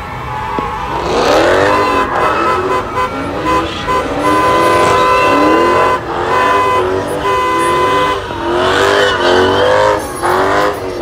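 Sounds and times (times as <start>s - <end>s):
car engines revving: 0.0s - 11.0s
car horns honking: 0.0s - 11.0s.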